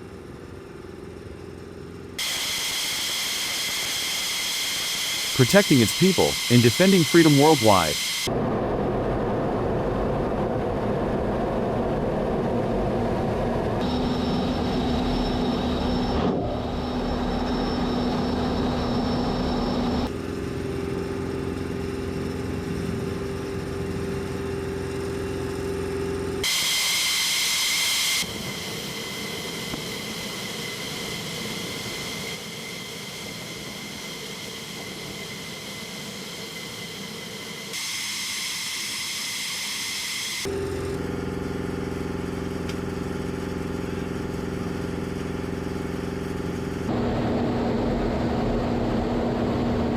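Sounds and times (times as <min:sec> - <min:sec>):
jet engine roar with whine: 0:00.0 - 0:05.4, 0:07.9 - 0:44.7, 0:46.9 - 0:49.9.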